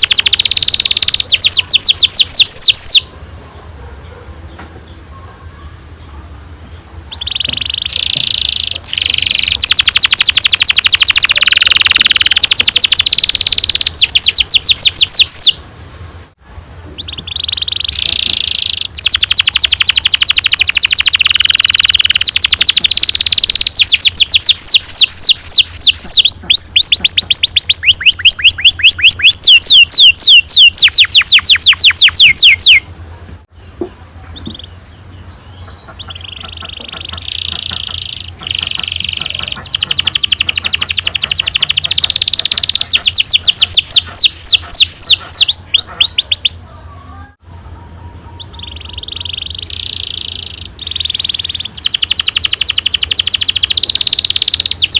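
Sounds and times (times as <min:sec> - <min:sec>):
canary singing trills: 0:00.0 - 0:15.6, 0:16.9 - 0:32.9, 0:33.5 - 0:54.9.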